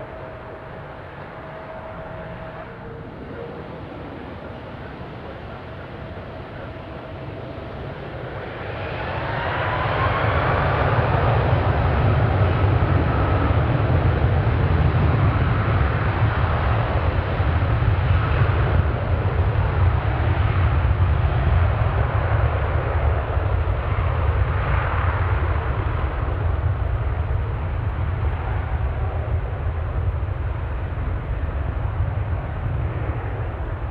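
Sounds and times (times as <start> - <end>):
aircraft engines roaring: 0.0 - 33.9.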